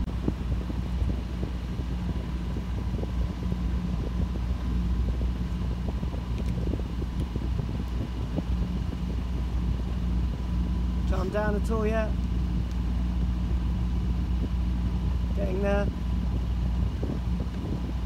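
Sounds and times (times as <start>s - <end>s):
boat engine running: 0.0s - 18.0s
wind rushing over microphone: 0.0s - 18.0s.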